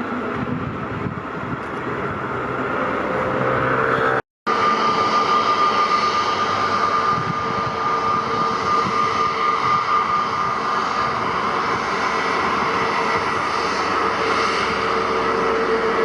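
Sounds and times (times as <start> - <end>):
jet engine whine: 0.0 - 16.0
loud rushing noise: 0.0 - 16.0.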